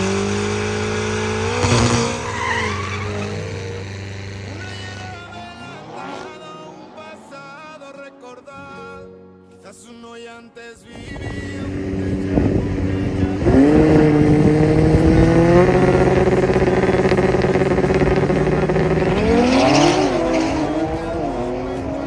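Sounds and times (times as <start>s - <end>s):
racing engine revving: 0.0s - 8.1s, 11.2s - 22.0s.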